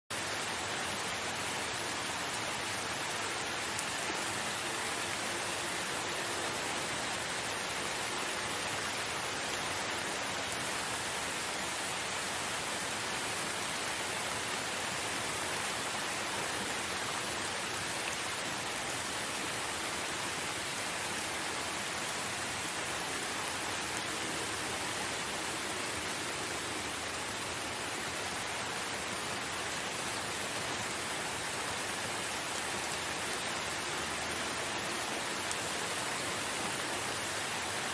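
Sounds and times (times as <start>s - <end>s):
steady rain hiss: 0.1s - 37.9s.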